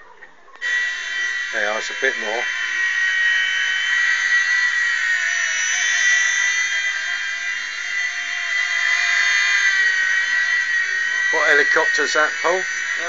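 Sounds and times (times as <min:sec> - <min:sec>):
small helicopter rotors whining: 0:00.6 - 0:13.0.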